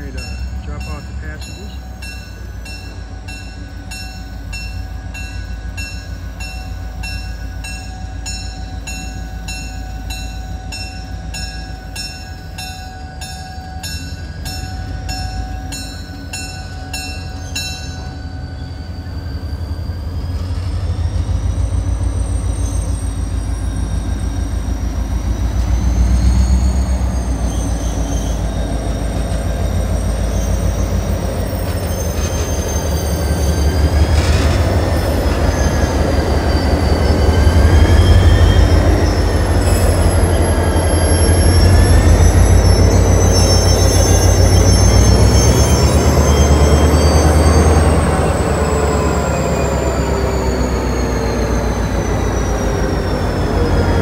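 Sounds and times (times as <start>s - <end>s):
diesel locomotive rumbling: 0.0s - 54.0s
steel wheels squealing on rails: 0.0s - 54.0s.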